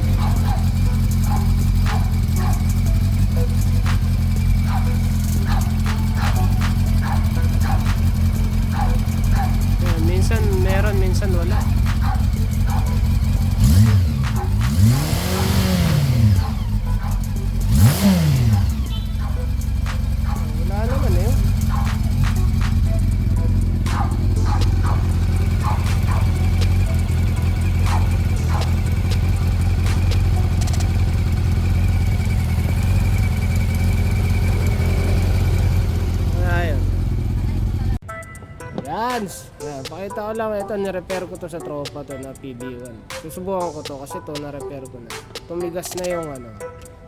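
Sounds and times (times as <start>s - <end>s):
engine ticking: 0.0s - 38.0s
motorcycle engine revving: 0.0s - 38.0s.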